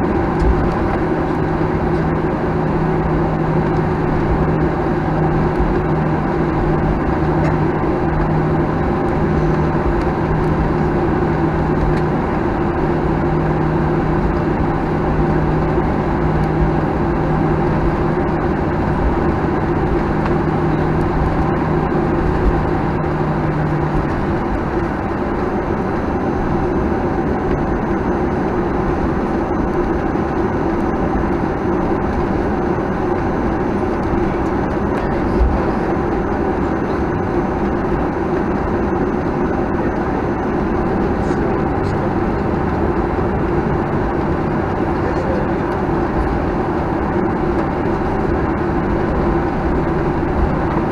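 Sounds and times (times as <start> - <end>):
aircraft cabin engine hum: 0.0 - 50.9.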